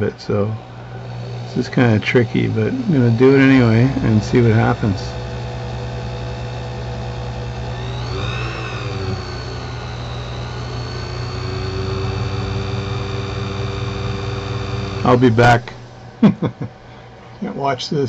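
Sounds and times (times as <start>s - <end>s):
small electric motor whining: 0.0s - 16.2s.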